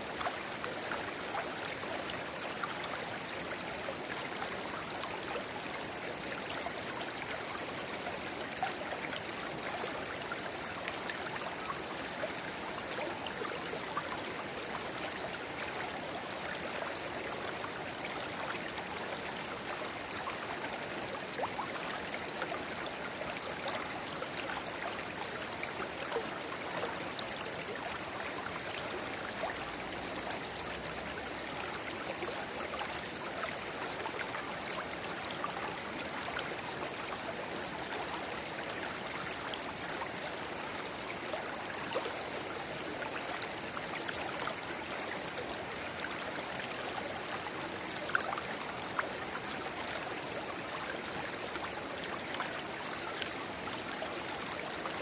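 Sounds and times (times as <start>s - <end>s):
small water splashes and gurgles: 0.0s - 55.0s
shallow river babbling: 0.1s - 55.0s.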